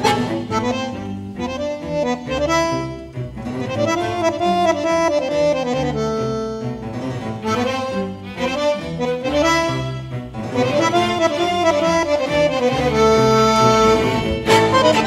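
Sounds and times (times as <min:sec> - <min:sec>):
bandoneon playing: 0:00.0 - 0:15.0.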